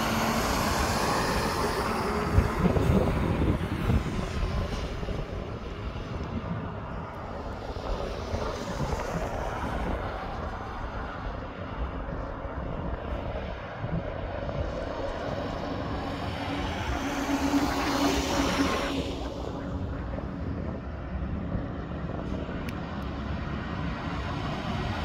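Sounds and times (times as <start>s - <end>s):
tractor-trailer engine droning: 0.0s - 25.0s
trucks driving on highway: 0.0s - 25.0s.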